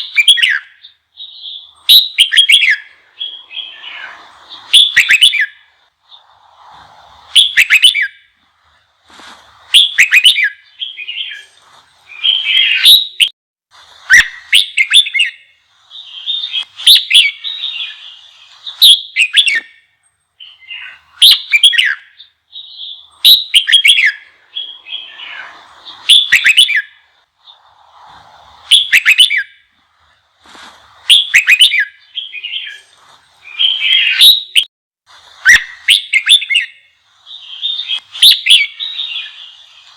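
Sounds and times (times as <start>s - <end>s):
bird whistled song phrases: 0.0s - 6.6s, 7.3s - 8.3s, 9.7s - 13.3s, 14.0s - 28.0s, 28.6s - 29.6s, 31.0s - 34.7s, 35.4s - 39.9s
soft bird chatter: 0.0s - 39.9s.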